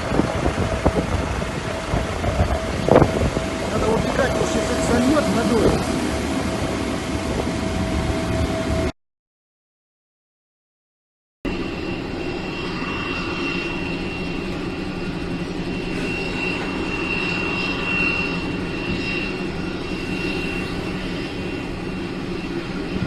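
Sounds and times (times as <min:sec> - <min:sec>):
jet engine rumble and whine: 0:00.0 - 0:09.0, 0:11.5 - 0:23.0.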